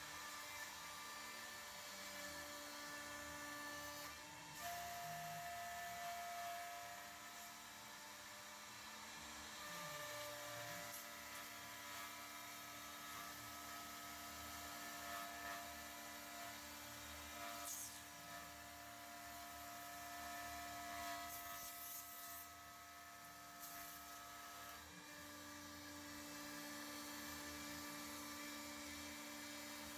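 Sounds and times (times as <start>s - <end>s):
cnc router whine: 0.0s - 29.9s.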